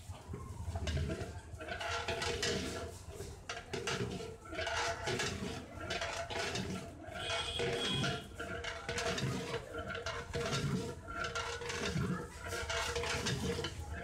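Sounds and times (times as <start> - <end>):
metal ladle scraping pot: 0.0 - 14.0.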